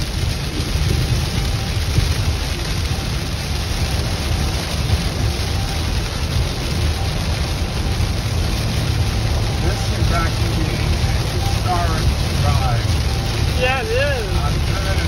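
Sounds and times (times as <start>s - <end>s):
heavy rain on car roof: 0.0s - 15.0s
tyres rumbling on wet road: 0.0s - 15.0s.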